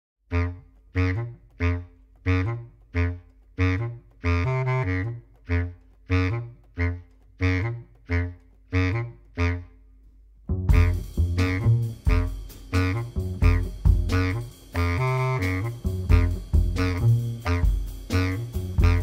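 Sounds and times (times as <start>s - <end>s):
bass clarinet: 0.3s - 9.8s, 10.5s - 19.0s
tenor saxophone: 0.3s - 9.8s, 10.7s - 19.0s.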